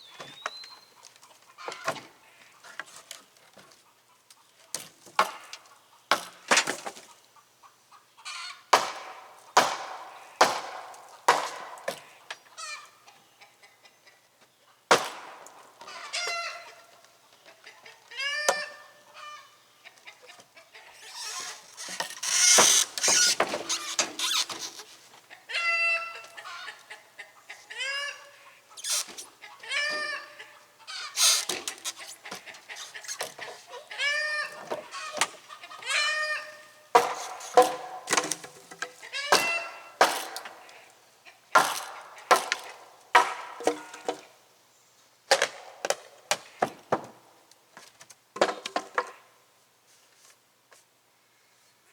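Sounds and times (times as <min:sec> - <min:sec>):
chickens clucking: 0:00.2 - 0:06.1, 0:06.9 - 0:44.4.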